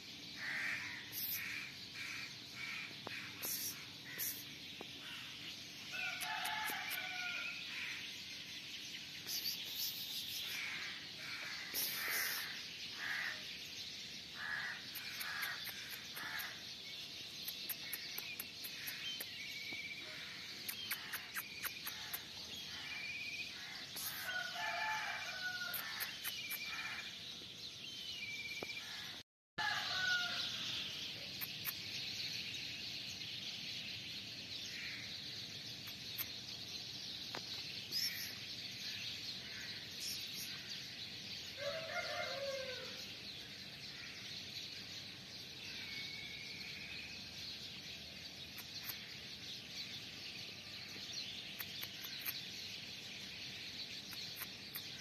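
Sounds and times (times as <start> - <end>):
bird calls: 0.0 - 8.1, 9.2 - 27.3, 29.8 - 32.9, 33.5 - 43.1, 45.6 - 55.0
steady outdoor hiss: 0.0 - 55.0.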